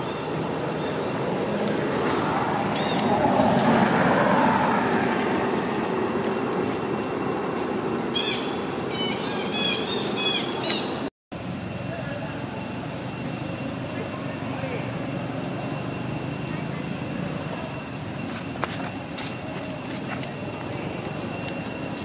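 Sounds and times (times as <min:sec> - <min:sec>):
outdoor rumble: 0:00.0 - 0:22.0.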